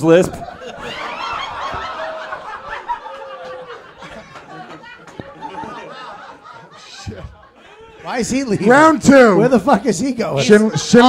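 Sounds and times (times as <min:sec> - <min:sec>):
audience laughing: 0:00.2 - 0:09.0, 0:10.2 - 0:11.0.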